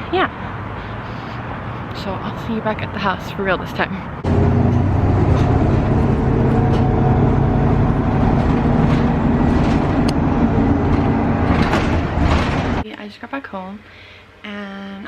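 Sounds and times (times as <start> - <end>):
bus engine rumbling: 0.0 - 12.8.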